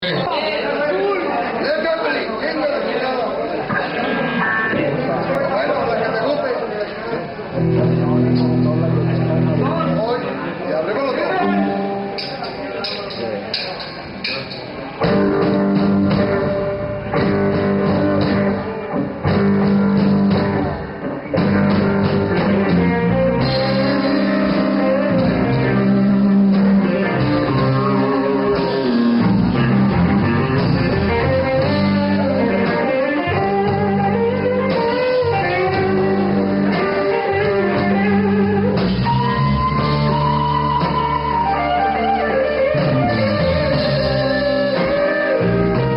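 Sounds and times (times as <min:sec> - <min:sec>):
rock music with electric guitar: 0:07.1 - 0:10.4, 0:11.4 - 0:13.2, 0:14.0 - 0:45.9.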